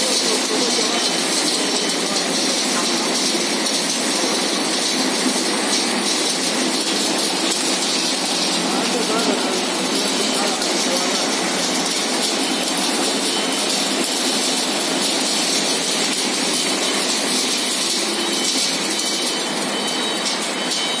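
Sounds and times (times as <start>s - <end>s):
packing machine mechanical rush: 0.0s - 21.0s.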